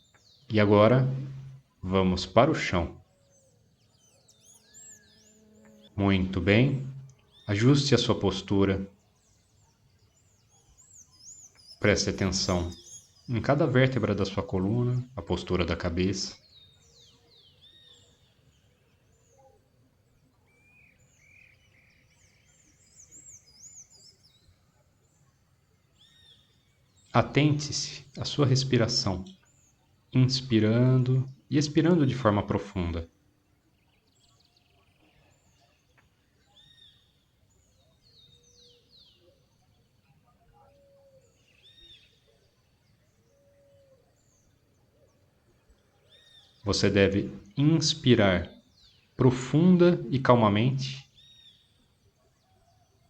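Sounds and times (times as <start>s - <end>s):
birds chirping: 0.0s - 53.0s
faint background noise: 0.0s - 53.0s.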